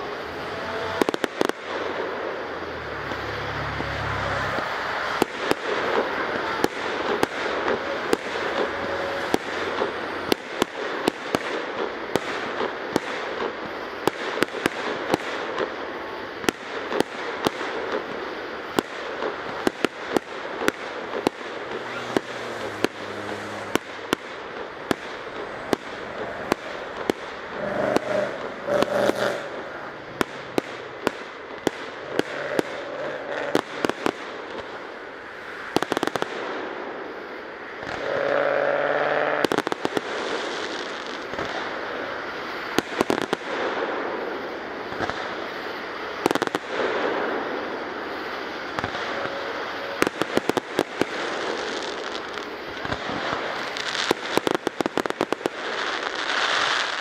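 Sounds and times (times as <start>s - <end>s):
continuous wash of noise: 0.0s - 57.0s
fireworks bangs: 0.0s - 57.0s.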